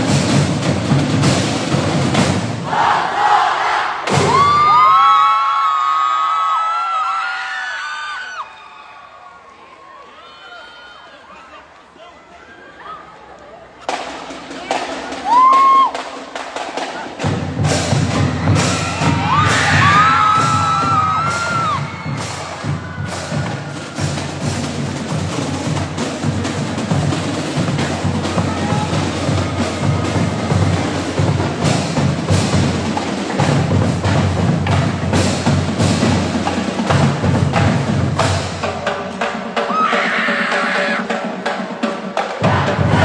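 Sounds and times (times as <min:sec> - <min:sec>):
drum line playing: 0:00.0 - 0:05.9, 0:13.8 - 0:43.0.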